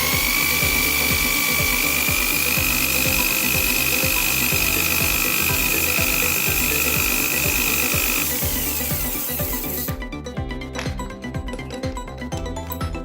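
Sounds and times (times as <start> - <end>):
hammer drill whining: 0.0 - 13.0.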